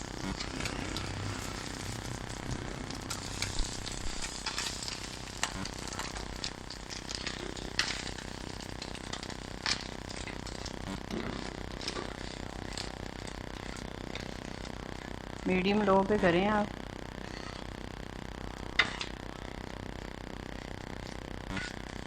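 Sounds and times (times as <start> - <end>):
oil sizzling on griddle: 0.0 - 22.0.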